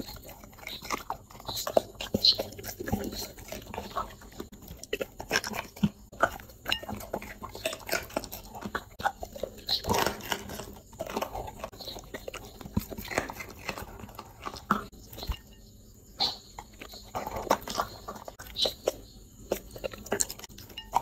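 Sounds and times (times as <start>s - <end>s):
dog chewing food: 0.0s - 21.0s.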